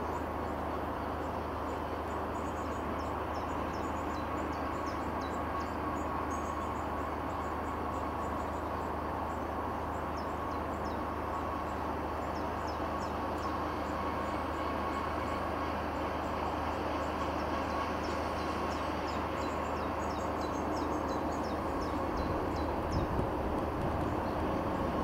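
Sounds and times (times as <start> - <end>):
motorised rail trolley running: 0.0 - 25.0.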